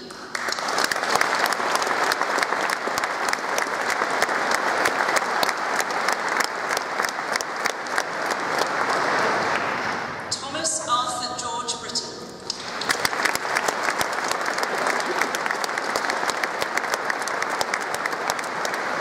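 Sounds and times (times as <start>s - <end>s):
audience applauding: 0.0s - 10.2s, 12.5s - 19.0s.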